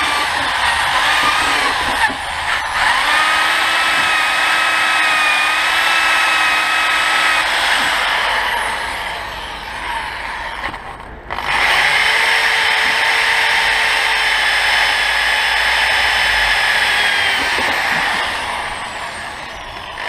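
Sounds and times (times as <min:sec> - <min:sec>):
handheld power tool running: 0:00.0 - 0:20.0.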